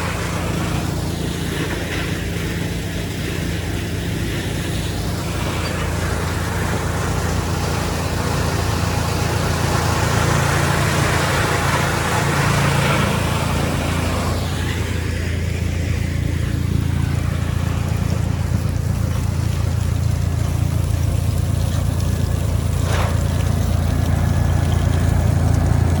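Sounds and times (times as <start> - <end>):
wood chipper humming: 0.0 - 26.0.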